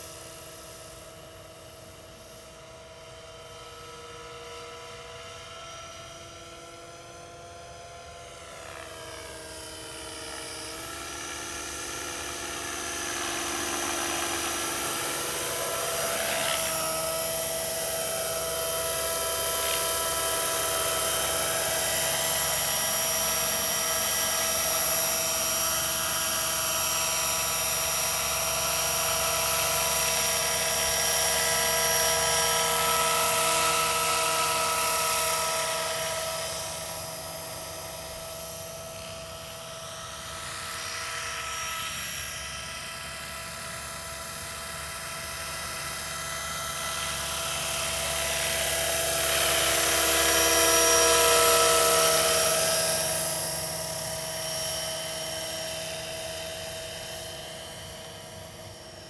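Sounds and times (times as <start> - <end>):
model helicopter whine: 0.0 - 59.0.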